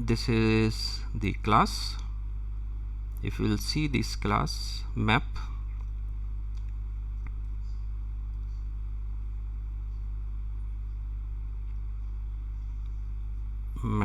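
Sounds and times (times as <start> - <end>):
low electrical hum with hiss: 0.0 - 14.0.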